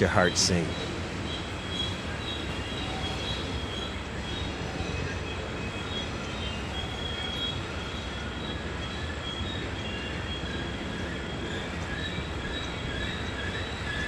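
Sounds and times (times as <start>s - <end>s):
train wheels rumbling on rails: 0.0s - 14.0s
high wheel squeals: 0.1s - 14.0s.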